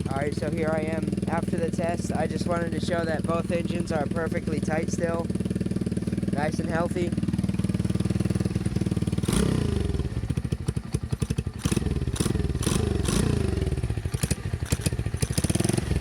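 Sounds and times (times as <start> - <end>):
engine revving: 0.0 - 16.0
small motorcycle engine idling: 0.0 - 16.0.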